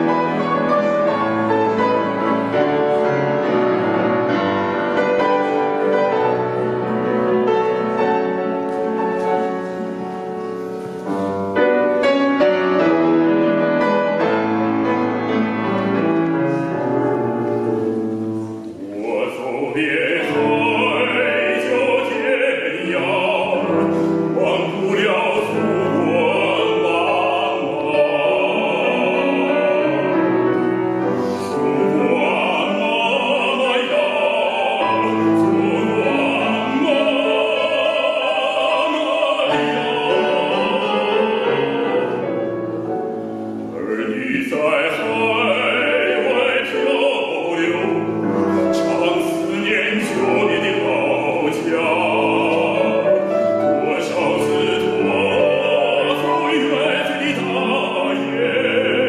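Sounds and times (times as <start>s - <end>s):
bass singing operatic piece: 0.0s - 59.0s
grand piano accompaniment: 0.0s - 59.0s.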